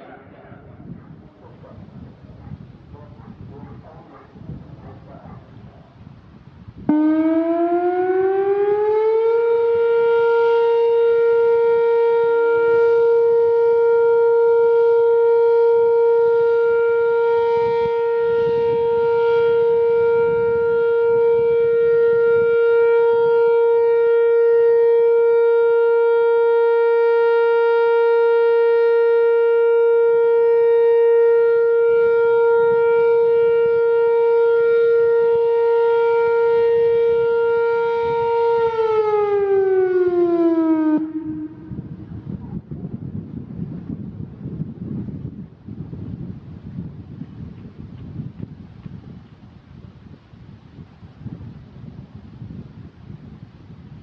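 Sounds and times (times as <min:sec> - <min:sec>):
outdoor warning siren steady tone: 0:00.0 - 0:46.7.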